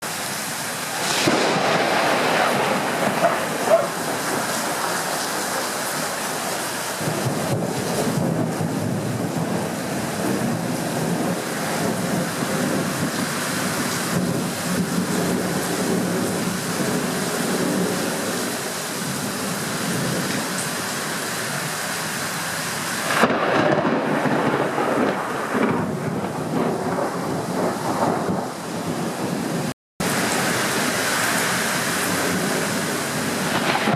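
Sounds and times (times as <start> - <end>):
heavy rain: 0.0 - 33.9
wind: 0.0 - 33.9.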